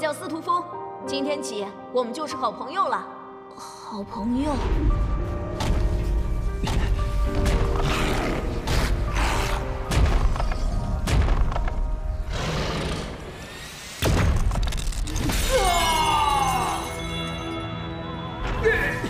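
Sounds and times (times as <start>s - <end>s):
dramatic cartoon music: 0.0s - 19.0s.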